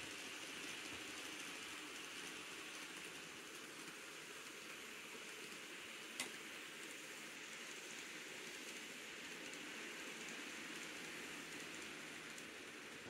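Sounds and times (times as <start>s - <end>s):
model train running on rails: 0.0s - 13.0s.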